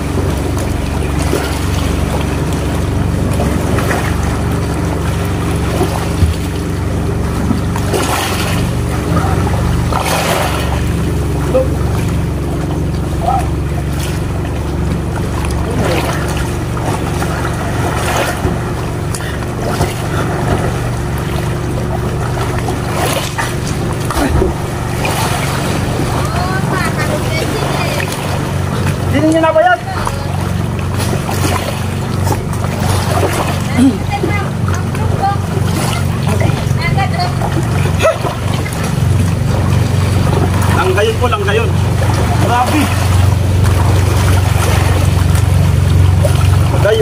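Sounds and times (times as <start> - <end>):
boat engine droning: 0.0 - 47.0
water and wind rushing: 0.0 - 47.0.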